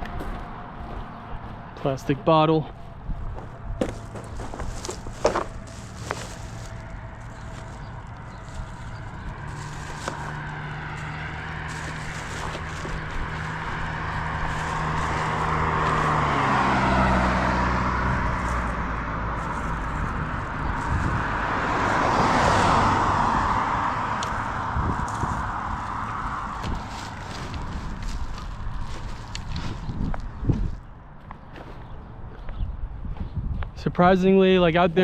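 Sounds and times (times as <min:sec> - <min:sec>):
vehicle engine passing: 0:00.0 - 0:32.3
tyre and wind noise: 0:02.7 - 0:35.0.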